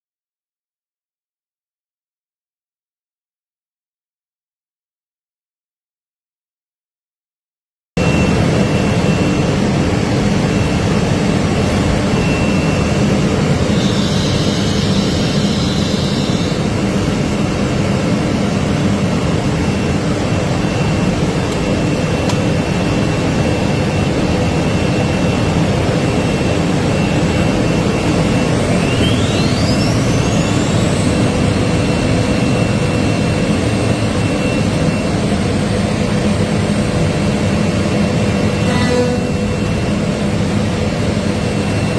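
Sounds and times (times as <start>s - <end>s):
cnc router running: 8.0s - 41.9s
short rising whine: 8.0s - 41.9s
thin high whine: 8.0s - 41.9s.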